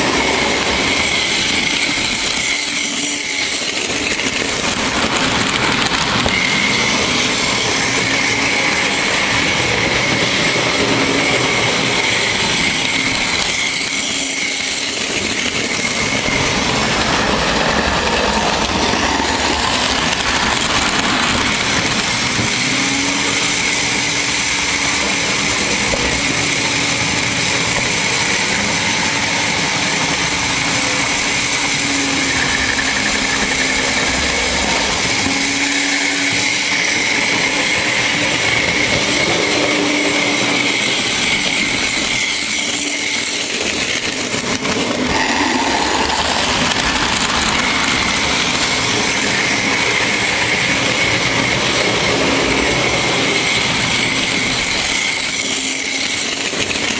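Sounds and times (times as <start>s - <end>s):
model train hum and whine: 0.0s - 56.9s.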